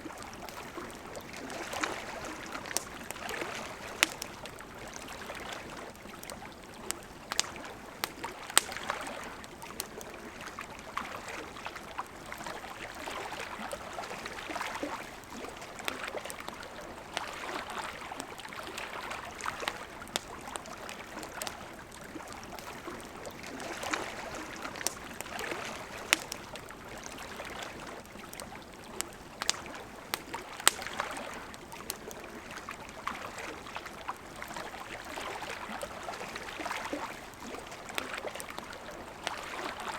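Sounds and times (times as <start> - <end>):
wood fire crackling: 0.0 - 11.2, 11.8 - 39.5.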